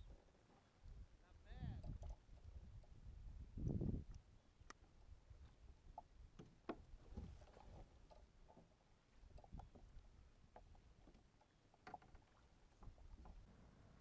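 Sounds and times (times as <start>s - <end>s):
knocks and clicks in a kayak: 1.6s - 13.5s.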